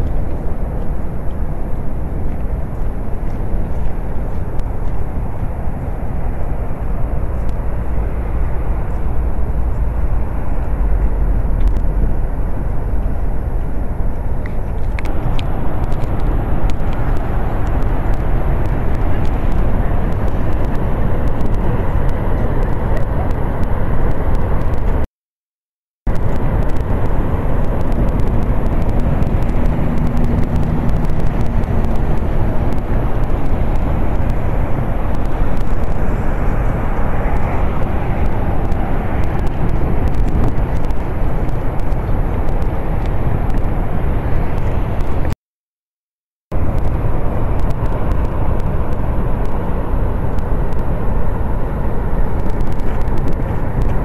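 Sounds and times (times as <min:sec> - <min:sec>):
roaring waterfall: 0:00.0 - 0:25.0, 0:26.1 - 0:45.3, 0:46.6 - 0:54.0.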